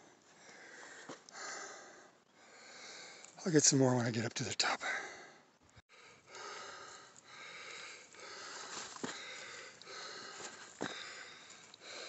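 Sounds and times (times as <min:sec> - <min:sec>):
person breathing hard: 0:00.4 - 0:03.3, 0:04.9 - 0:12.0.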